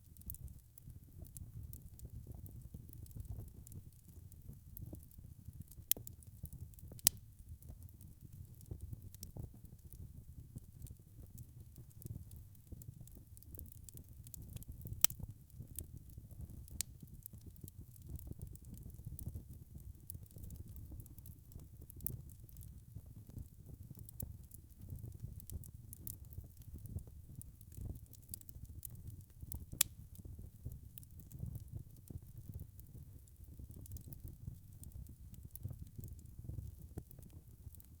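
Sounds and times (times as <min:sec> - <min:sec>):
wood fire crackling: 0:00.1 - 0:38.0.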